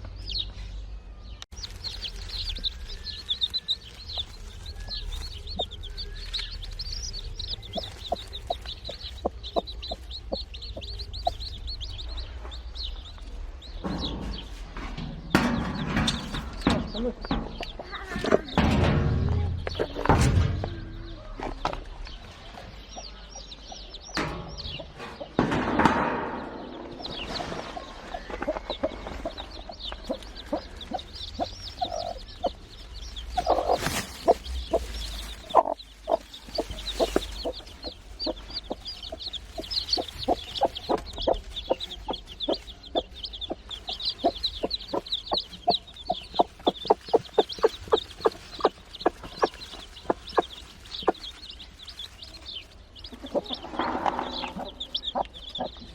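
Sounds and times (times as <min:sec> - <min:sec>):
chicks peeping: 0:00.0 - 0:55.9
hen clucking: 0:01.6 - 0:55.9.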